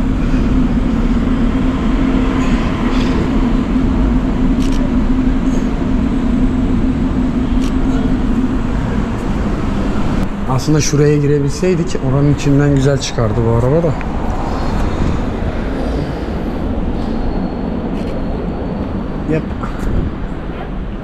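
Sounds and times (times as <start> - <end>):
large engine idling: 0.0 - 21.0
street noise rumble: 0.0 - 21.0.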